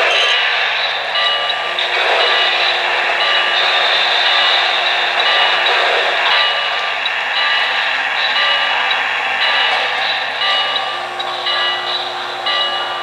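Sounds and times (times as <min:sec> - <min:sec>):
model train hiss: 0:00.0 - 0:12.4.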